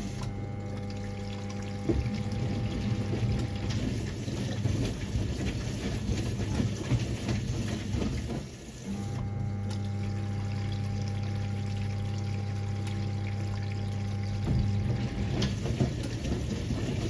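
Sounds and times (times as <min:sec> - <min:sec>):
pump humming with water running: 0:00.0 - 0:17.0
water sloshing in washing machine: 0:00.0 - 0:17.0.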